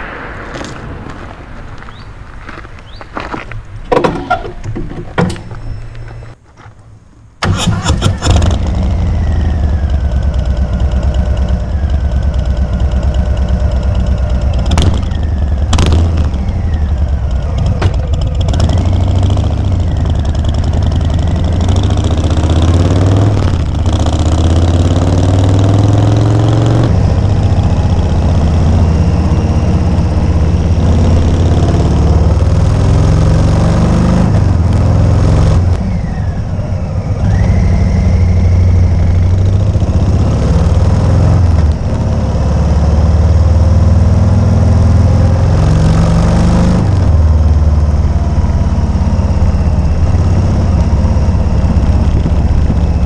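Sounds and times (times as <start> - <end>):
motorcycle engine running loud: 8.2 - 53.0.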